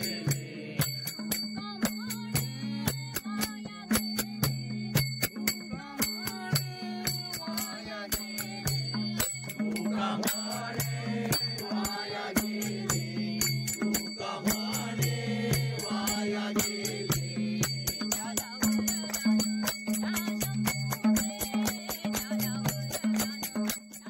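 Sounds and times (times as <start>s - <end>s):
chant-like singing: 0.0s - 2.9s, 5.8s - 23.6s.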